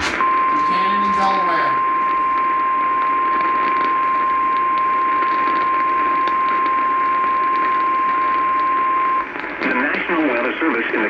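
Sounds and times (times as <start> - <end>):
radio static hiss: 0.0 - 11.0
steady high alarm tone: 0.2 - 9.3.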